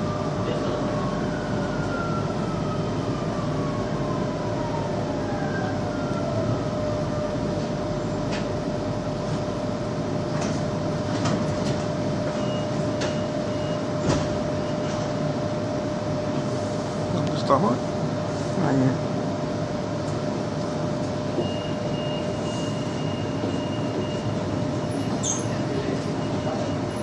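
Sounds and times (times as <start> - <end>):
metro train motor whine: 0.0 - 27.0.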